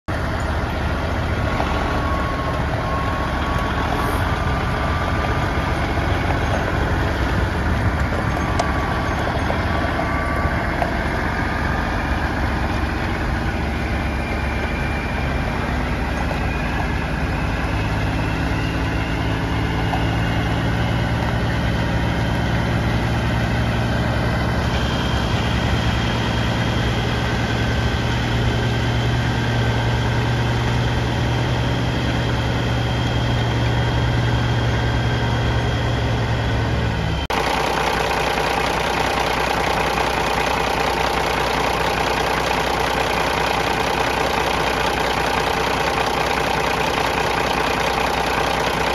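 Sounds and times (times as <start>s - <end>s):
diesel truck engine idling: 0.1s - 48.9s.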